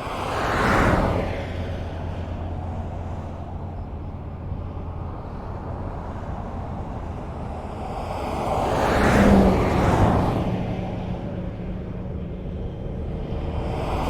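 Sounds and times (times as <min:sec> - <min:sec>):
highway traffic rumble: 0:00.0 - 0:14.0
vehicle passing close by: 0:00.0 - 0:14.0.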